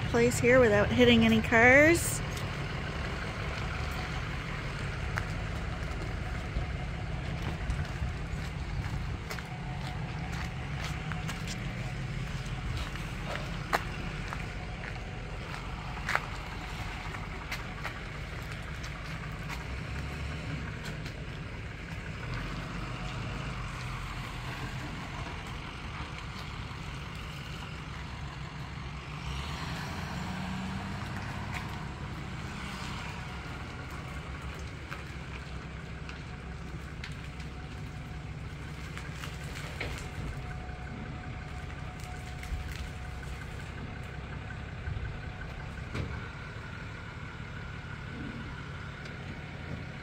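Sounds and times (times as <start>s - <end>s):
truck engine low rumble: 0.0s - 50.0s.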